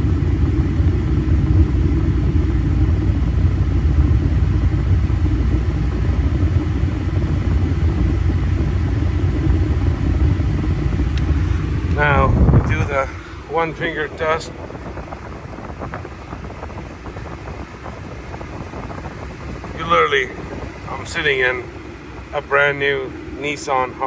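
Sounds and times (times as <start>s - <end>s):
air conditioning blower: 0.0s - 24.0s
pickup engine idling: 0.0s - 24.0s.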